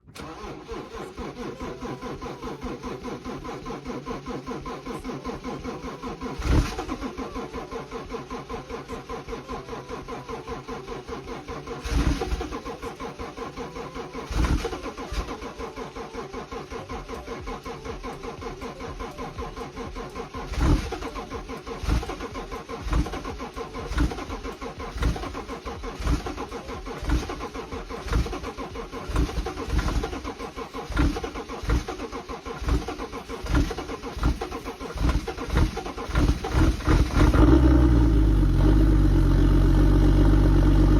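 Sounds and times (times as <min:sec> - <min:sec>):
engine running loud: 0:00.0 - 0:40.9
starter motor cranking engine: 0:00.0 - 0:40.9.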